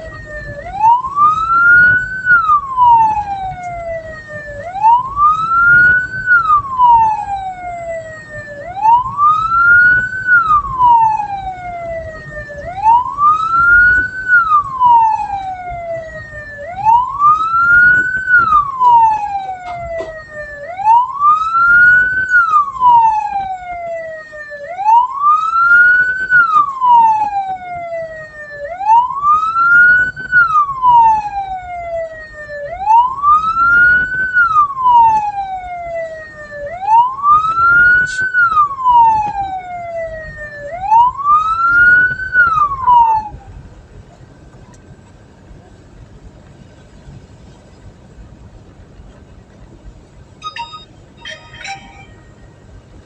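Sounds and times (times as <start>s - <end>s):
vehicle siren wailing: 0.0s - 45.4s, 50.2s - 53.0s
low vehicle engine rumble: 0.0s - 53.0s
road noise: 0.0s - 53.0s.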